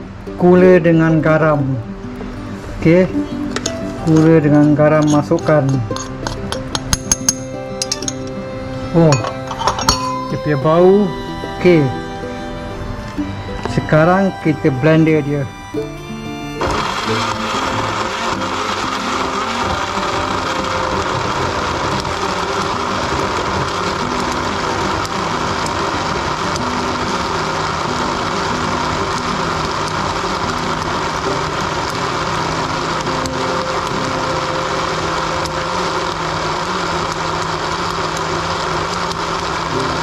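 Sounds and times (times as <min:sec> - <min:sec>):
blender motor whirring: 0:07.5 - 0:40.0.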